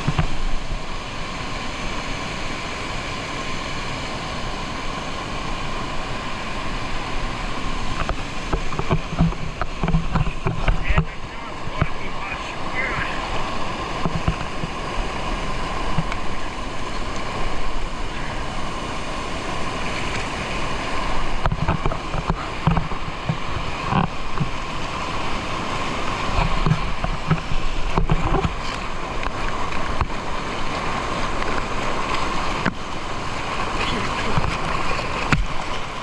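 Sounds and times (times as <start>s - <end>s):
waterfall rushing water: 0.0s - 36.0s.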